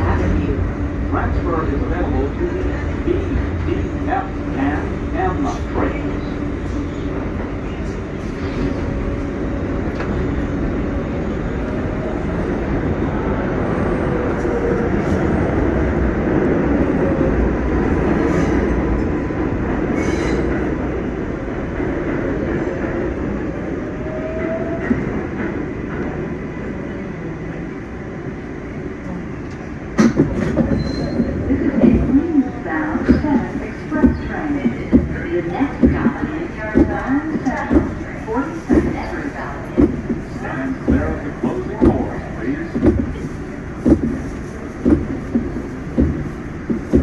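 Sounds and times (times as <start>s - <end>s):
subway train rumble and rattle: 0.0s - 47.0s.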